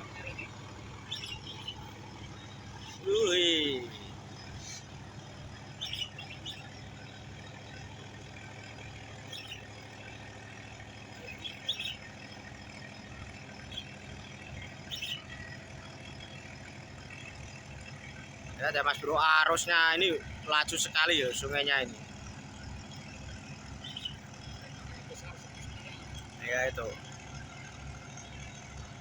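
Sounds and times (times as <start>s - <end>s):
birds chirping: 0.0s - 29.0s
boat diesel engines droning: 0.0s - 29.0s.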